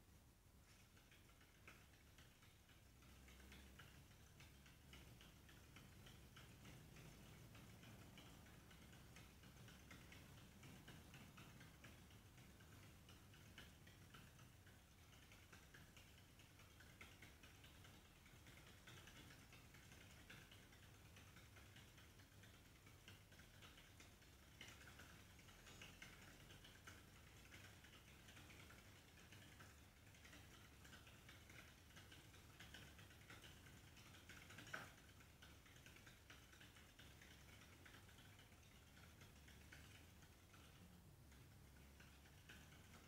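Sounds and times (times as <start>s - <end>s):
hamster running in plastic wheel: 0.7s - 43.0s.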